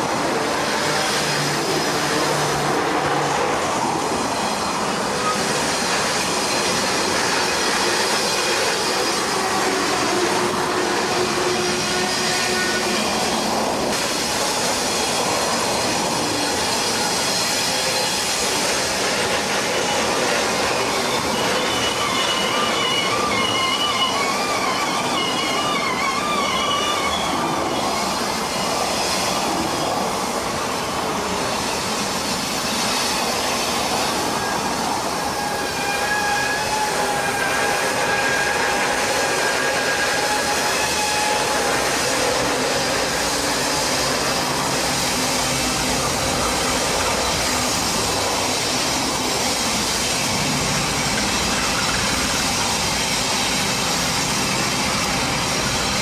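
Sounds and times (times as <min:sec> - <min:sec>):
locomotive diesel engines: 0:00.0 - 0:56.0
rumble of train cars: 0:00.0 - 0:56.0
train wheels squealing: 0:00.0 - 0:56.0.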